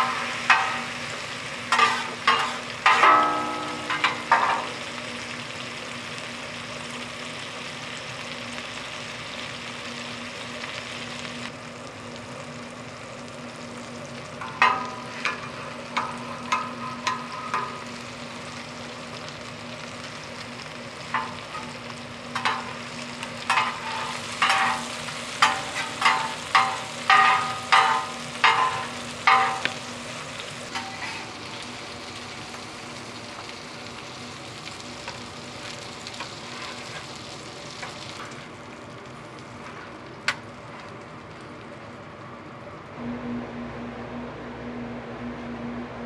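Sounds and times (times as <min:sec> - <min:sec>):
pancakes sizzling in oil: 0:00.0 - 0:42.1.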